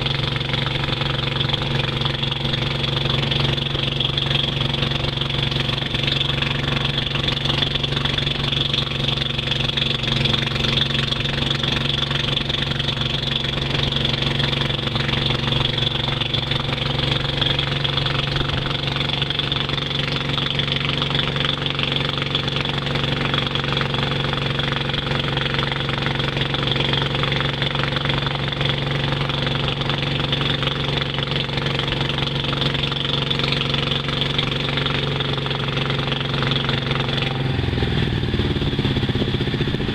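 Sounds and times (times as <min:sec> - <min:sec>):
boat engine running steadily: 0:00.0 - 0:39.9.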